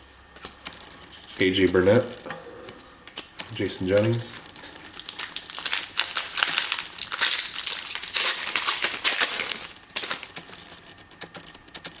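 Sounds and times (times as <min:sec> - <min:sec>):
plastic wrappers crinkling: 0:00.3 - 0:02.2, 0:03.0 - 0:12.0.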